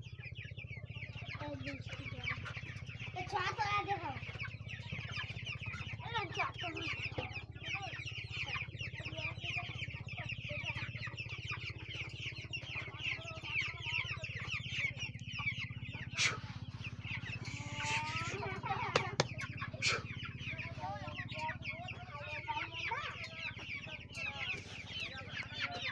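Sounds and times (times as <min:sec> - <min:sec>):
chickens clucking: 0:00.0 - 0:25.9
steady low hum: 0:00.1 - 0:25.8.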